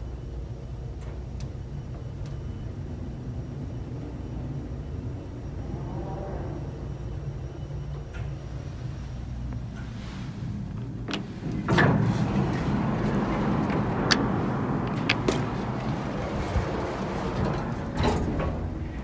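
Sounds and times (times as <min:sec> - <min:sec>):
elevator doors sliding: 0:00.0 - 0:19.0.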